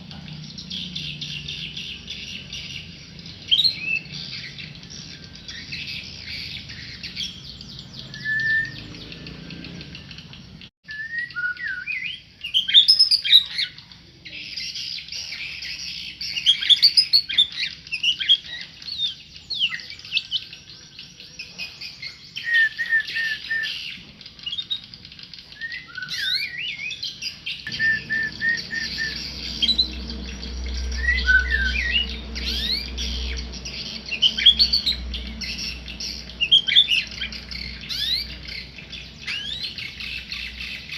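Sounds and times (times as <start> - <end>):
songbird whistling and chirping: 0.1 - 40.9.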